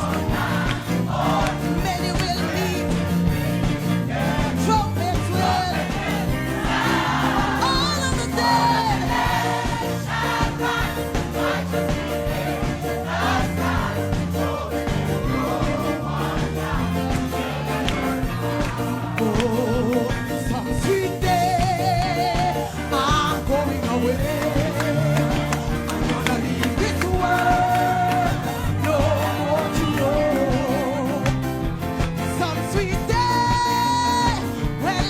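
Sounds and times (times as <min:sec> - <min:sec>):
gospel choir singing: 0:00.0 - 0:35.0.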